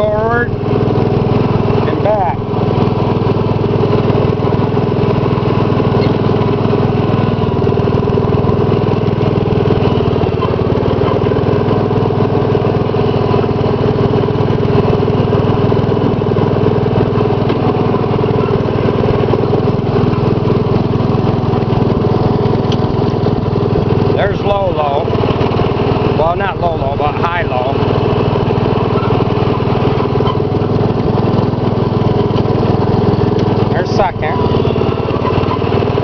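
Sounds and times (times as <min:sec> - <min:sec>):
single-cylinder engine running: 0:00.0 - 0:36.0.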